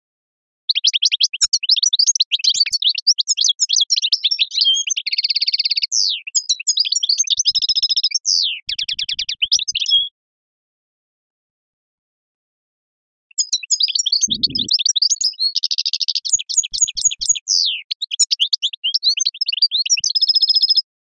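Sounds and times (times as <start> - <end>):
songbird trilling song: 0.7 - 10.1, 13.3 - 20.9.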